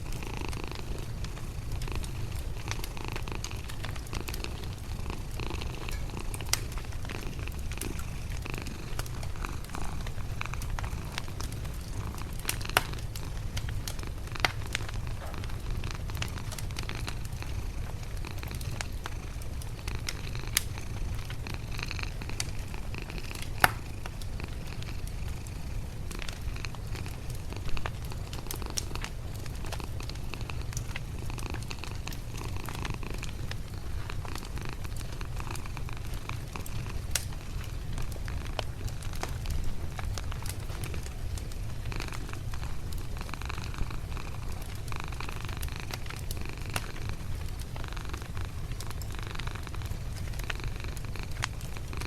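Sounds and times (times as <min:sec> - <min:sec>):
cat purring: 0:00.0 - 0:52.0
fire crackling and popping: 0:00.0 - 0:52.0.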